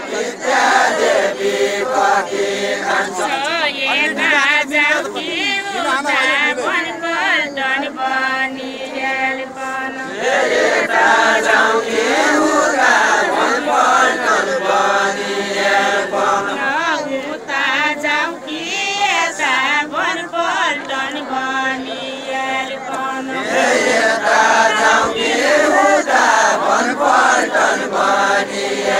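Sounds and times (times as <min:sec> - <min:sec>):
group singing unaccompanied: 0:00.0 - 0:28.9.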